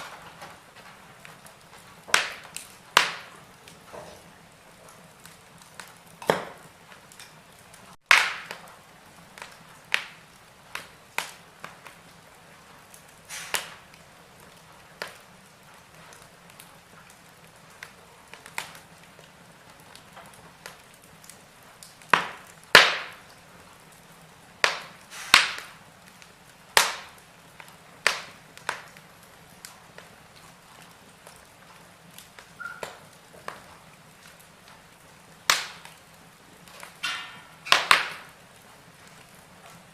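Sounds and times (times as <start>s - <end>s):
wood fire popping and snapping: 0.0s - 39.9s.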